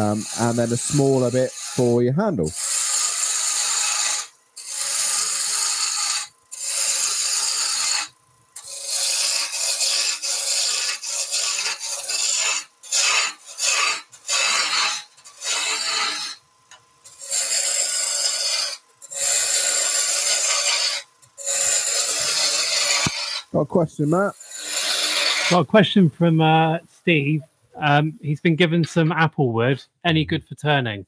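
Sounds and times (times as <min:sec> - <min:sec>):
lathe tool cutting wood: 0:00.0 - 0:16.4, 0:17.1 - 0:25.7.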